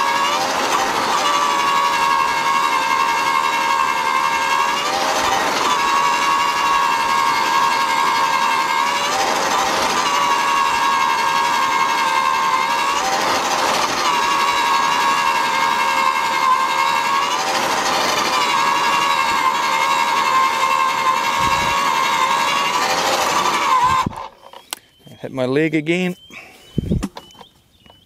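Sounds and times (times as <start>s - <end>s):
auger motor whining: 0.0s - 25.0s.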